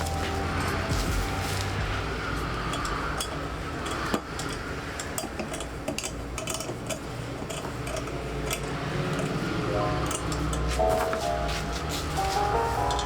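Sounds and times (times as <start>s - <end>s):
metal tools clinking: 0.0s - 11.5s.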